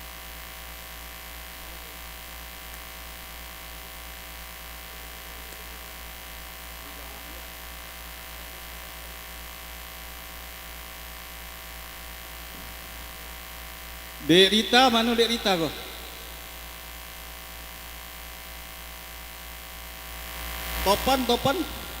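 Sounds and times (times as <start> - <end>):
electrical mains hum: 0.0 - 22.0
sound system hiss: 0.0 - 22.0.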